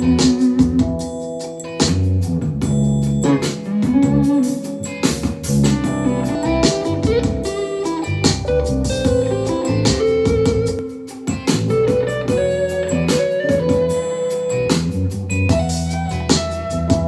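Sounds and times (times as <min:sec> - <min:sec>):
guitar song with drum beat: 0:00.0 - 0:17.0.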